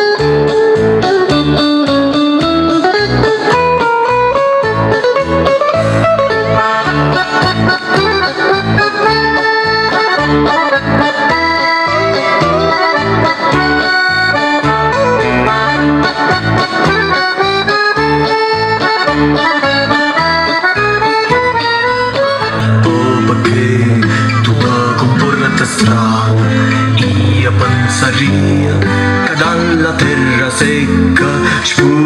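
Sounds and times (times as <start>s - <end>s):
accordion music with steady beat: 0.0s - 28.2s.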